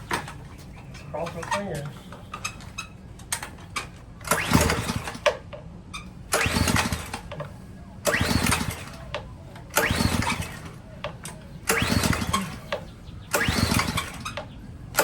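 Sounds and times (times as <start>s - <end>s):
engine cranking whir: 0.0s - 15.0s
recoil starter cord pulls: 1.2s - 5.5s, 6.3s - 15.0s.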